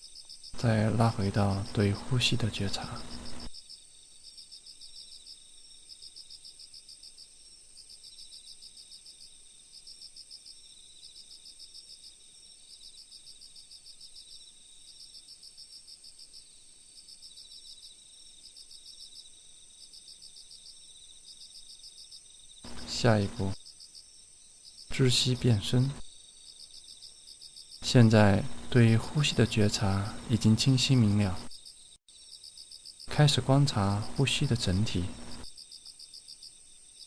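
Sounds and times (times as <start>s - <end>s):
high-pitched insect tone: 0.0s - 7.4s, 8.0s - 37.0s
crickets chirping in trills: 0.0s - 37.0s.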